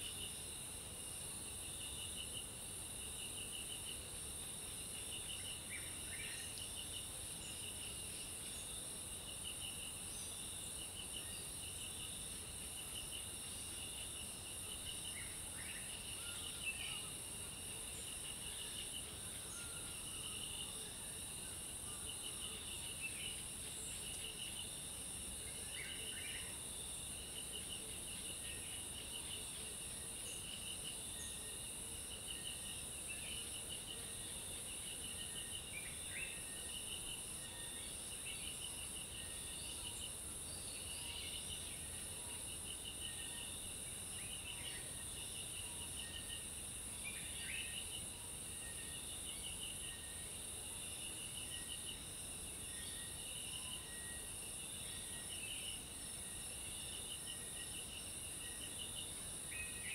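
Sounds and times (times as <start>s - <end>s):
insects high-pitched drone: 0.0s - 59.9s.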